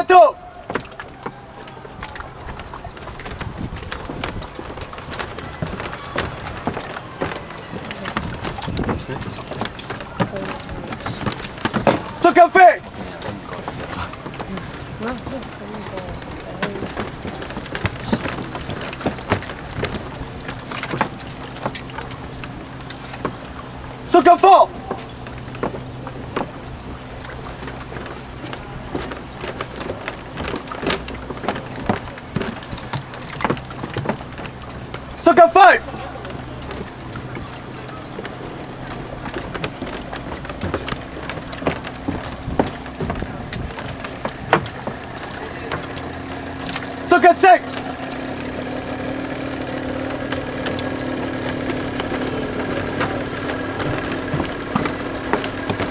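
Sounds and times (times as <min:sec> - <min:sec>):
oars knocking and splashing: 0:00.0 - 0:55.9
steady background noise: 0:00.0 - 0:55.9
water and boat noise: 0:00.0 - 0:55.9.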